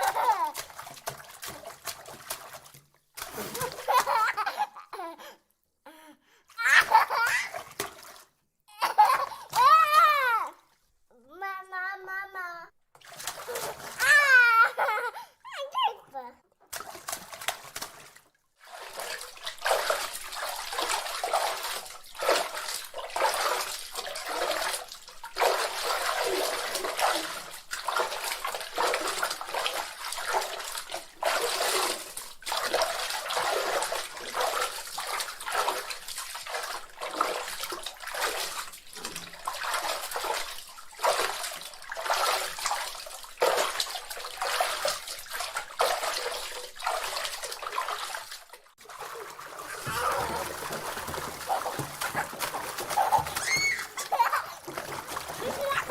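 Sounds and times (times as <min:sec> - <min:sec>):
bath water splashing: 0:00.0 - 0:05.3, 0:06.5 - 0:10.9, 0:12.9 - 0:15.2, 0:16.5 - 0:55.9.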